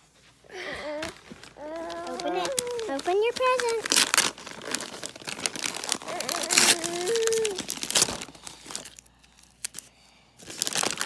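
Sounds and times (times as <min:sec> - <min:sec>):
wrapping paper tearing and crumpling: 0:00.8 - 0:11.0.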